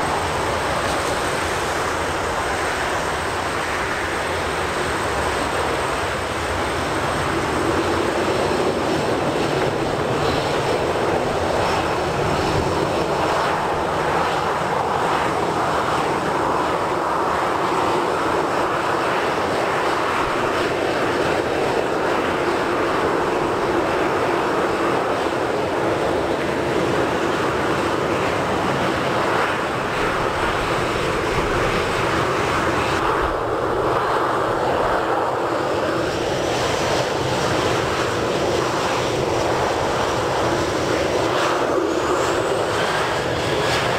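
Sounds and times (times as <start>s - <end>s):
jet engines at taxi power: 0.0s - 43.9s.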